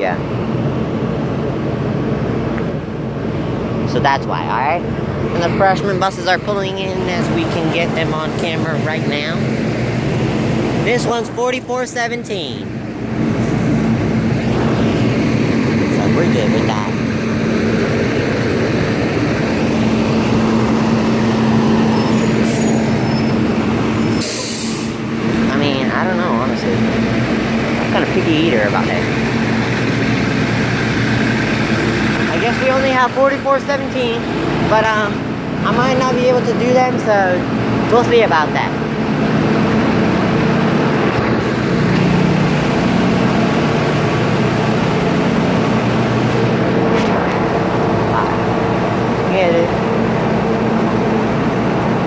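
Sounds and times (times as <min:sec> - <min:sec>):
bus engine humming: 0:00.0 - 0:52.0.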